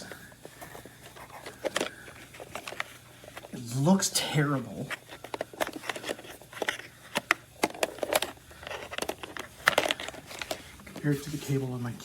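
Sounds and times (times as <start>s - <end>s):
braided cable rustling and crinkling: 0.0s - 12.0s.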